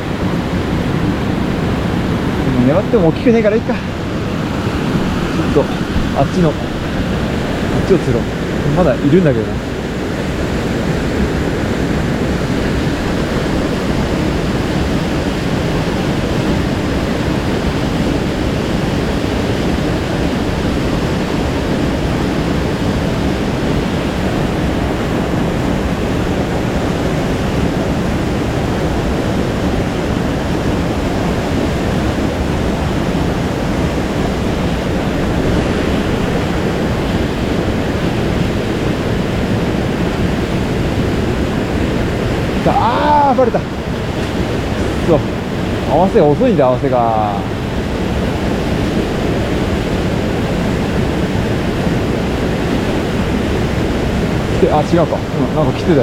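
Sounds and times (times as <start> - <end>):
fast-flowing stream water rushing: 0.0 - 56.0.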